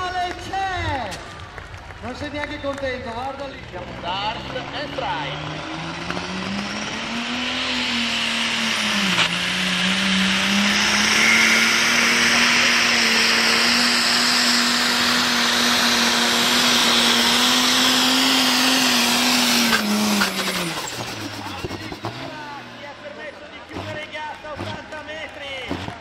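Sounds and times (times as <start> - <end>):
diesel tractor engine at full load: 0.0 - 26.0.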